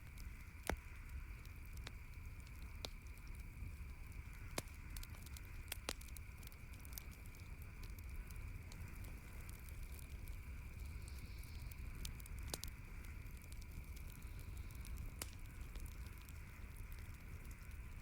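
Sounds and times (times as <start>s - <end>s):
campfire crackling and popping: 0.0s - 18.0s
low background rumble and hiss: 0.0s - 18.0s.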